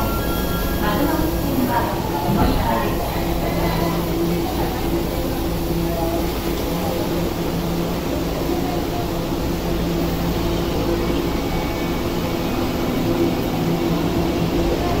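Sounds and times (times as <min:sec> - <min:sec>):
low rumble of train wheels: 0:00.0 - 0:15.0
train motors humming: 0:00.0 - 0:15.0.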